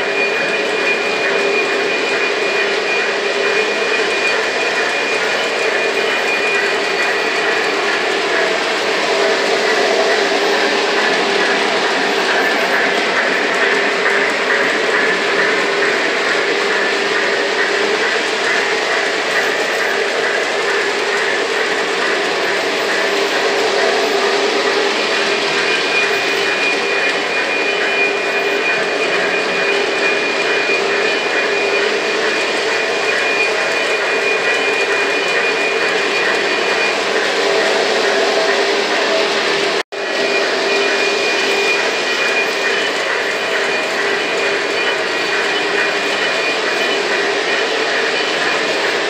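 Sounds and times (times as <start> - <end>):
model train wheels rumbling: 0.0 - 49.0
thin high whine: 0.0 - 49.0.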